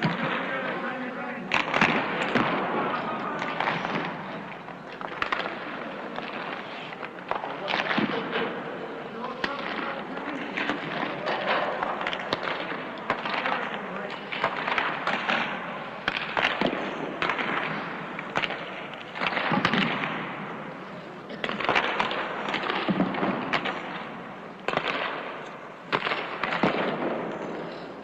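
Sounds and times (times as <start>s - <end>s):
hockey sticks striking pucks: 0.0s - 28.0s.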